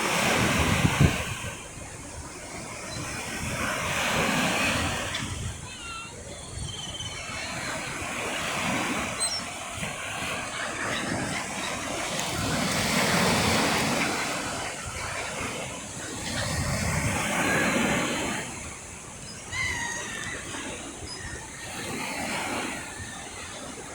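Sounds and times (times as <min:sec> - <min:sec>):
waves washing onto shore: 0:00.0 - 0:23.9.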